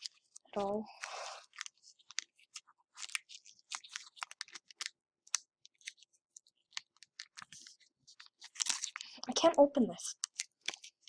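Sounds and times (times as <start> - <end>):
foil wrapper crinkling: 0.0 - 9.2, 10.1 - 11.0.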